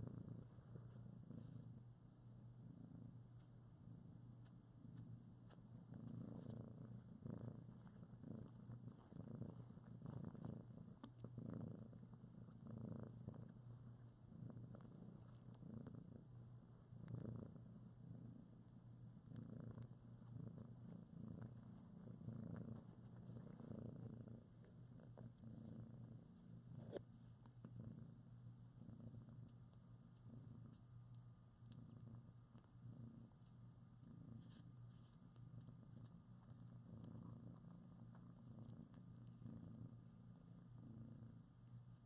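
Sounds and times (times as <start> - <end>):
cats purring softly: 0.0 - 42.0.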